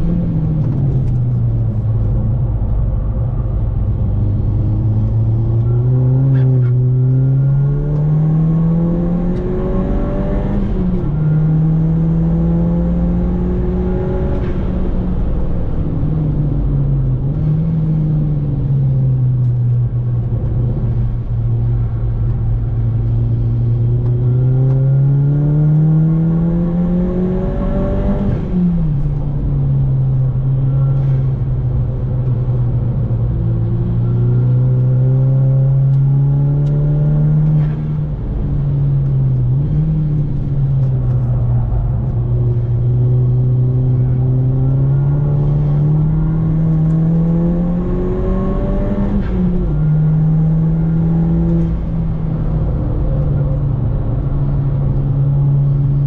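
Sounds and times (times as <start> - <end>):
car engine accelerating: 0.0 - 56.0
road and tyre rumble: 0.0 - 56.0.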